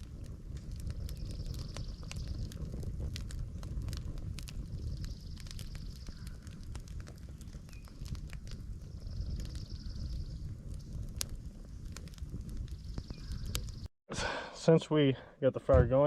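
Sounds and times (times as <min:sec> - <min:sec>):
campfire crackling and popping: 0:00.0 - 0:14.4.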